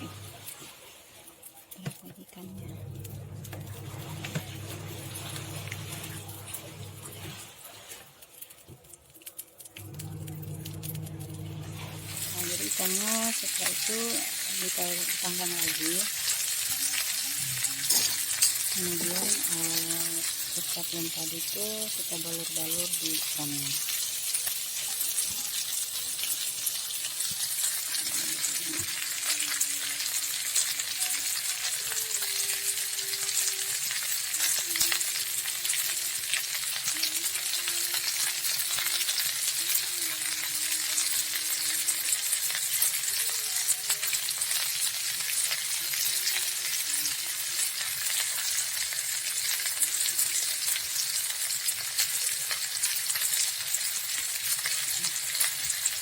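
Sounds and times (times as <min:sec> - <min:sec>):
fish sizzling in a pan: 0:00.0 - 0:56.0.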